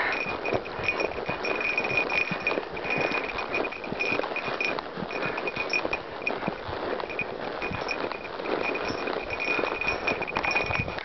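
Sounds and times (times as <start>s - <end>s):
horse hooves on dirt trail: 0.0s - 11.0s
horse tack rustling and knocking: 0.0s - 11.0s.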